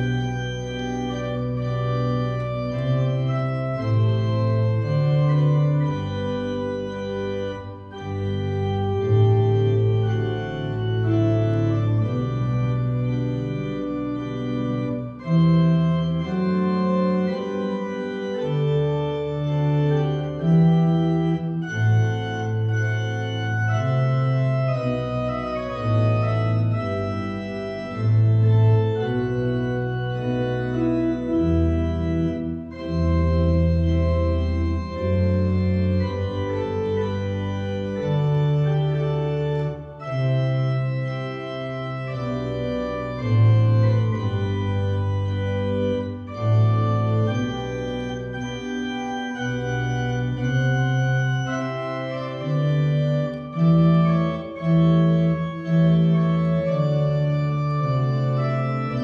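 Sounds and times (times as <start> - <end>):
church organ playing: 0.0 - 59.0.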